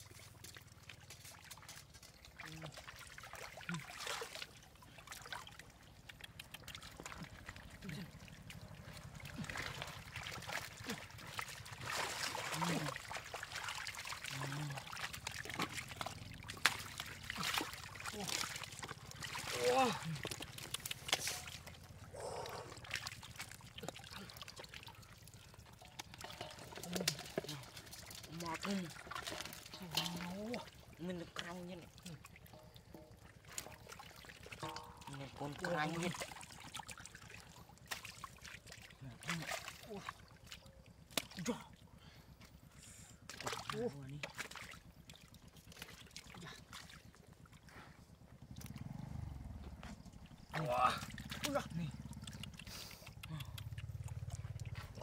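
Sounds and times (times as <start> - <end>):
water trickling and splashing: 0.0 - 55.0.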